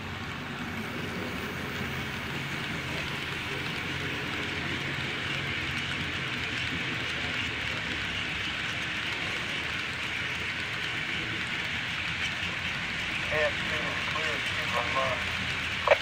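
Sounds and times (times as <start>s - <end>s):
model train wheels rolling on rail: 0.0s - 16.0s.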